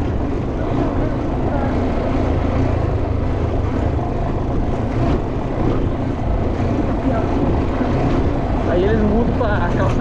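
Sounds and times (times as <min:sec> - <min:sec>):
motorcycle engine running: 0:00.0 - 0:09.7
road and wind noise: 0:00.0 - 0:10.0.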